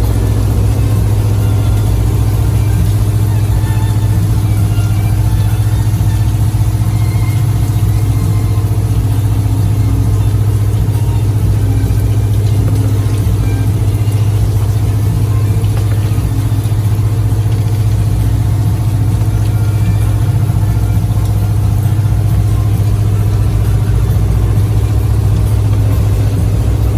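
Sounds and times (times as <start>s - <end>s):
motor boat engine drone: 0.0s - 26.9s.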